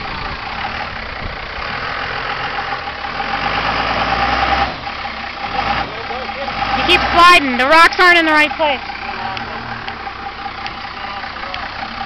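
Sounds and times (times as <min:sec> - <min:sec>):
tires slipping on rock: 0:00.0 - 0:12.0
truck engine working under load: 0:00.0 - 0:12.0.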